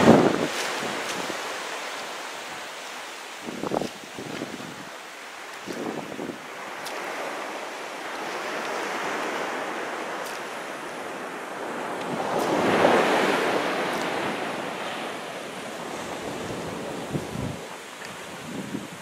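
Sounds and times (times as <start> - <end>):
small waves washing on beach: 0.0 - 19.0.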